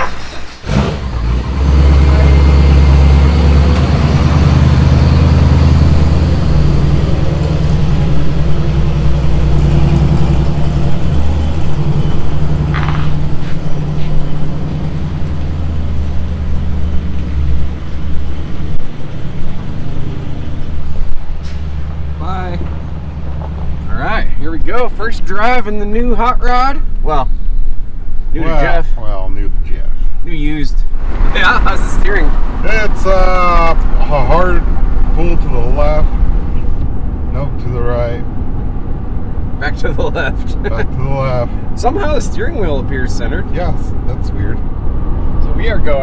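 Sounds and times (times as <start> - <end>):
pickup truck engine drone: 0.0 - 25.9, 30.9 - 46.0.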